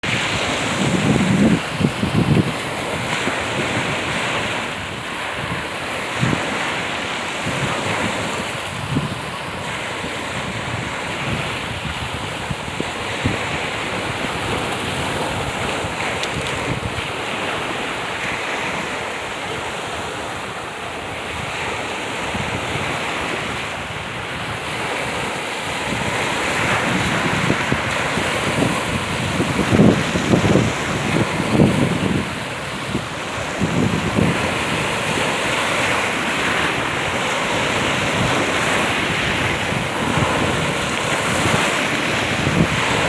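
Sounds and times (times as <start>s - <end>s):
waves breaking on shore: 0.0s - 43.0s
wind buffeting microphone: 0.0s - 43.0s.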